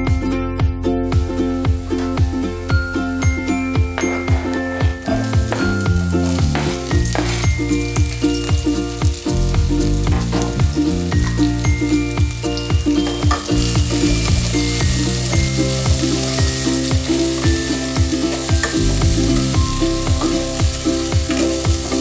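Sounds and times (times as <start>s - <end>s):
background music with beat: 1.1s - 22.0s
food sizzling in a pan: 1.1s - 22.0s.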